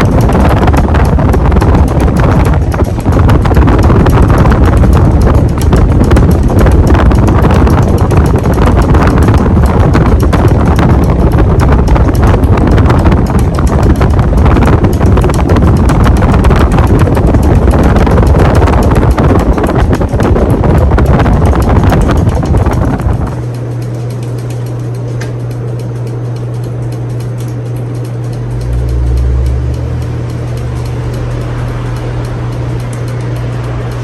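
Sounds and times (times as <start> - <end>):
ceiling fan wind buffeting: 0.0 - 34.0.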